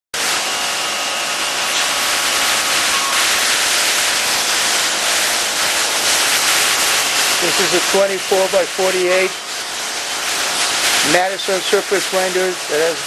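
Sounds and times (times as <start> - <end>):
industrial machinery hiss: 0.2 - 13.0.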